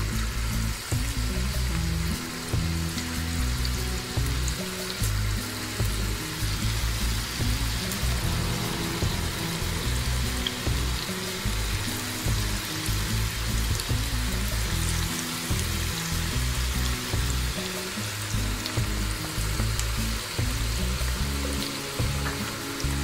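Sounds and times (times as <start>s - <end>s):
background music with bass line: 0.0s - 23.0s
chicken deep-frying in oil: 0.0s - 23.0s.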